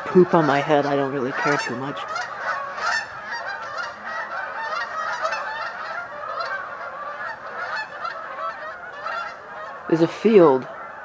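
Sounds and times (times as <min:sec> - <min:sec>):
flock of geese honking: 0:00.0 - 0:11.0.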